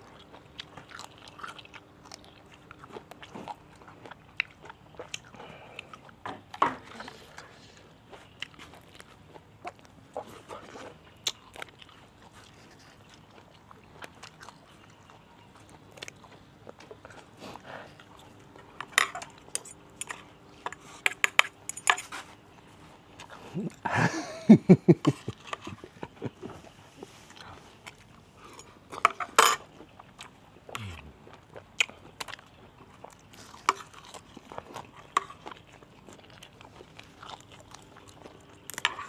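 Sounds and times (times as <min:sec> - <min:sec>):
person chewing and crunching food: 0:00.0 - 0:39.0.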